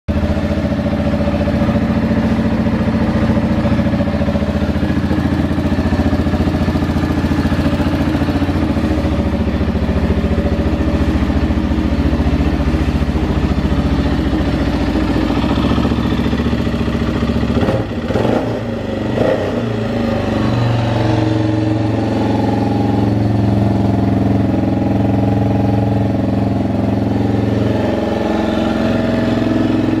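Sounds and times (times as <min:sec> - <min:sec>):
atv engine running: 0:00.1 - 0:30.0.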